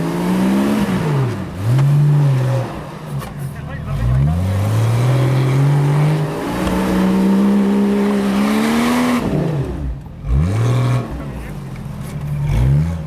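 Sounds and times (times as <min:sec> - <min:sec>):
engine revving hard: 0:00.0 - 0:03.0, 0:03.8 - 0:11.6, 0:12.4 - 0:13.0.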